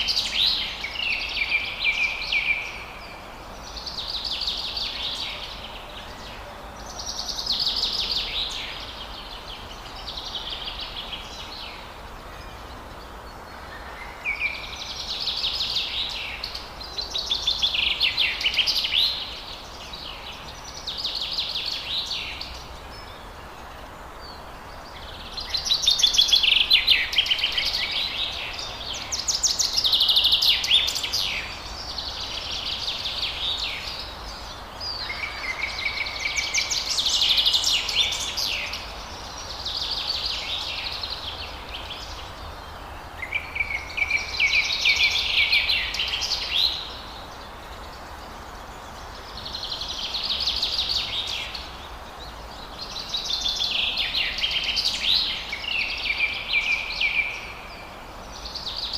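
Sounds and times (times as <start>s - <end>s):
songbirds singing trilled phrases: 0.0s - 58.9s
steady background hiss: 0.0s - 58.9s.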